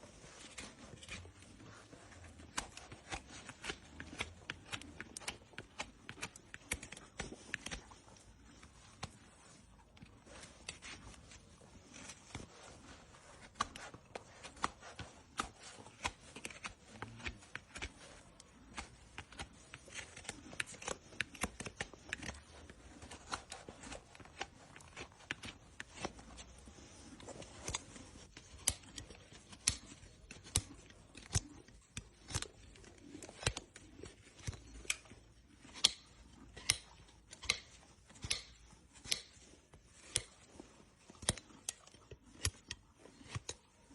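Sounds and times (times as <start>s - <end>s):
hoof trimming snips and cracks: 0.1s - 43.9s.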